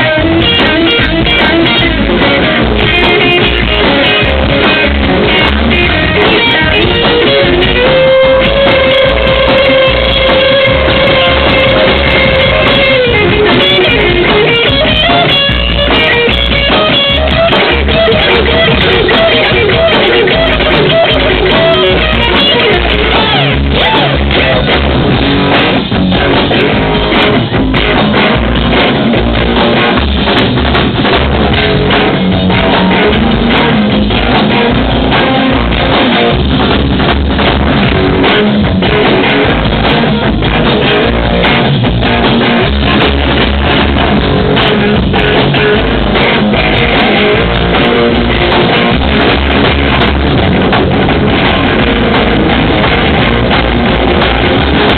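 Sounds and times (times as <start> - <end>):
loud distorted rock band: 0.0 - 54.9.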